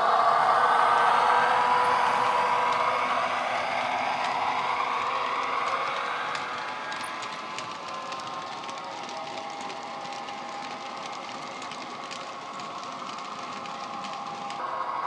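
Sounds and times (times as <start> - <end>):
diesel locomotive engine through small speaker: 0.0 - 15.0
model train wheels clicking on track: 0.7 - 14.6.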